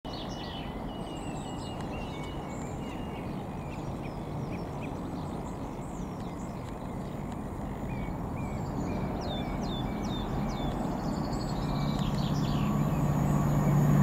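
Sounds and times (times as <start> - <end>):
songbirds chirping and whistling: 0.1 - 14.0.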